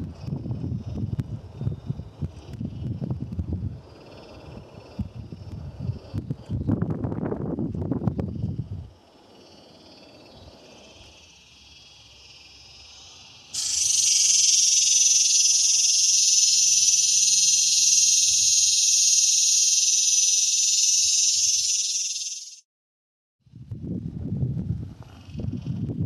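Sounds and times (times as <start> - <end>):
cicada buzzing: 0.0 - 22.6.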